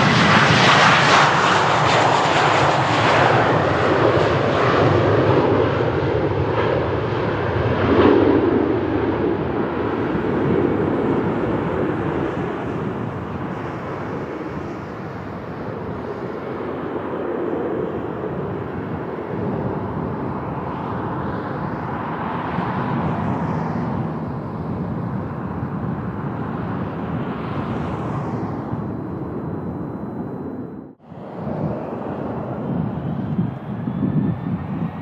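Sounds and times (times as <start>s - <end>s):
jet engines passing: 0.0s - 35.0s
wind buffeting microphone: 0.0s - 35.0s.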